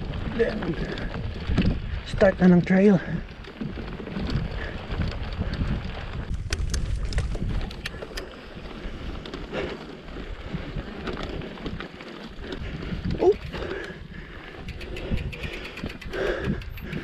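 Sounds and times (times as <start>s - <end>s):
bike tyres rolling on dirt: 0.0s - 17.0s
wind buffeting microphone: 0.0s - 17.0s
sharp clicks and rattles: 0.4s - 8.4s, 11.0s - 17.0s.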